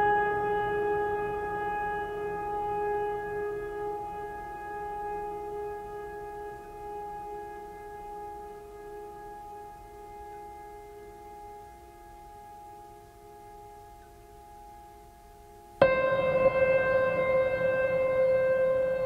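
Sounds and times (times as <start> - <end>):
held musical tone with overtones: 0.0 - 19.0.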